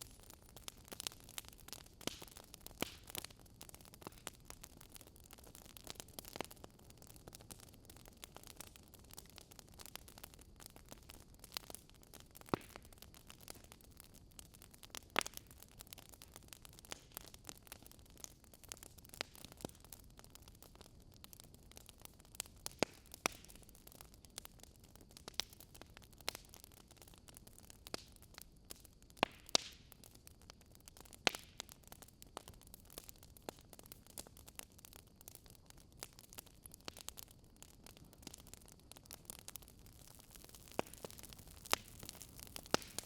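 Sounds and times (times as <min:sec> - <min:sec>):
fire crackling: 0:00.0 - 0:43.0.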